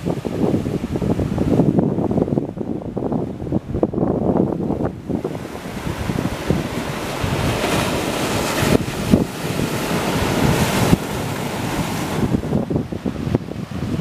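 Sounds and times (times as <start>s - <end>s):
ocean waves breaking on rocks: 0.0s - 14.0s
wind buffeting microphone: 0.0s - 14.0s.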